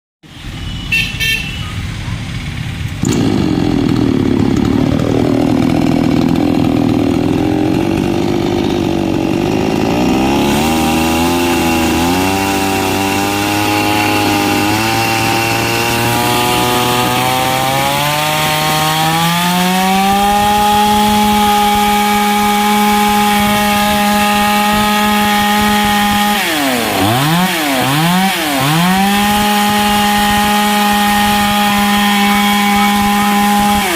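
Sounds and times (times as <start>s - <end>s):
chainsaw engine running: 2.4s - 33.9s.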